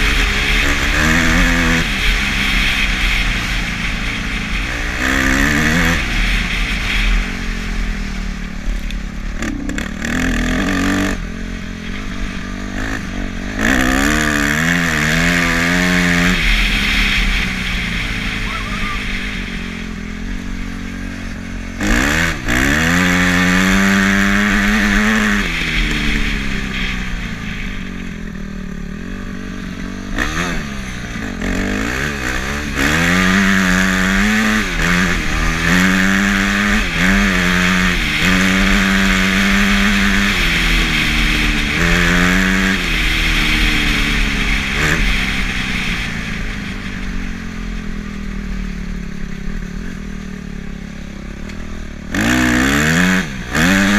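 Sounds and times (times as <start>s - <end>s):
off-road vehicle engine revving: 0.0s - 7.6s, 8.5s - 53.9s.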